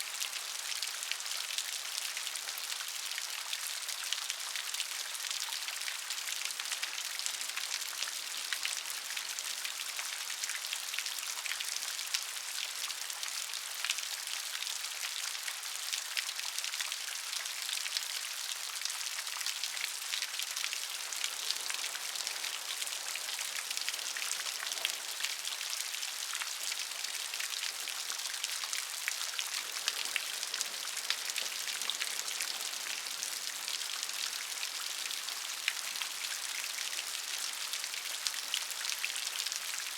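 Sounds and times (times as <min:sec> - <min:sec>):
rain falling with drop ticks: 0:00.0 - 0:39.9.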